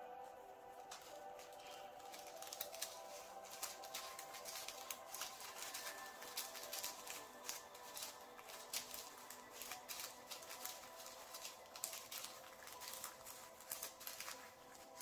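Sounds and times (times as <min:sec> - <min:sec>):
plastic bag crinkling: 0:00.2 - 0:15.0
small beads clicking: 0:00.8 - 0:15.0.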